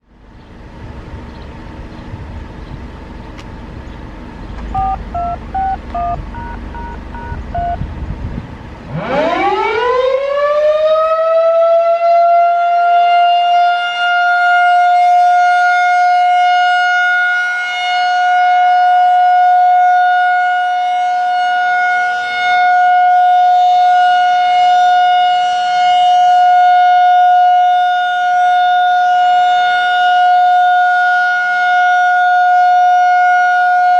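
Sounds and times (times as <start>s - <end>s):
rotating warning siren whine: 0.6s - 33.9s.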